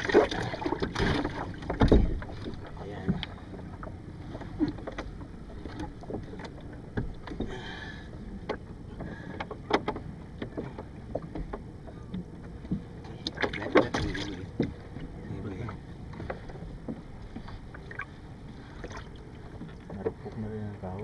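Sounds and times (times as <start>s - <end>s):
muffled boat rumble: 0.0s - 21.0s
water splashes: 0.0s - 21.0s.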